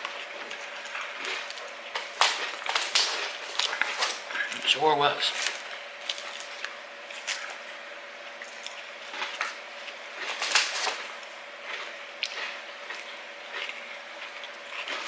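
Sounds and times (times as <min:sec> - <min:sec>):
person chewing salad: 0:00.0 - 0:04.7, 0:05.3 - 0:15.0.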